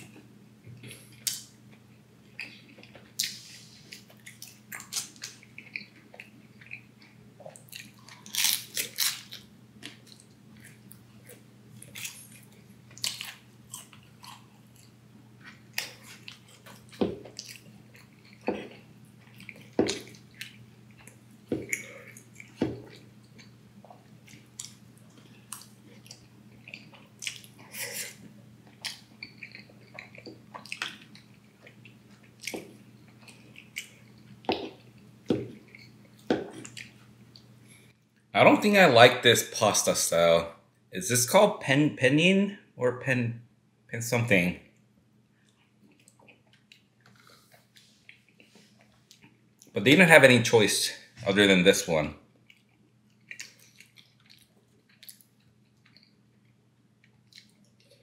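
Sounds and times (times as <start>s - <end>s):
faint steady low hum: 0.0s - 58.0s
person chewing food: 0.1s - 37.9s, 45.4s - 49.7s, 52.3s - 58.0s.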